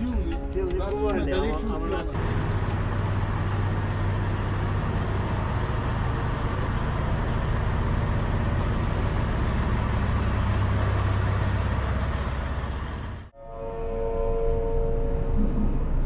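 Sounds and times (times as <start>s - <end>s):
diesel engines idling: 0.0s - 13.3s.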